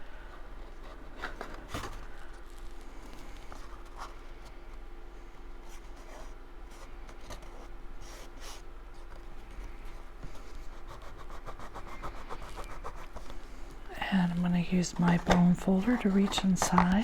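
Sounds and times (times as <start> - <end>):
faint steady hum: 0.0 - 17.0
paper crinkles: 0.2 - 4.8, 5.6 - 17.0
paper rubbing and rustling: 0.2 - 4.8, 5.6 - 17.0.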